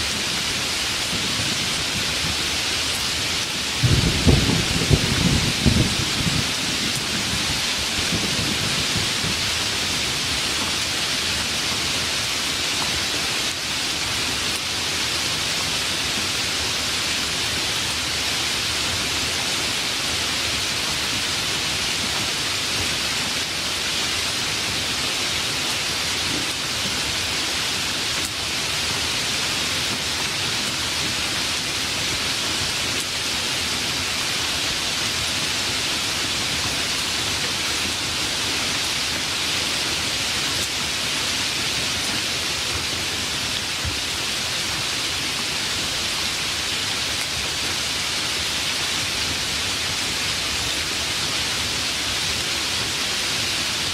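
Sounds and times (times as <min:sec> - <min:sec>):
steady rain hissing: 0:00.0 - 0:53.9.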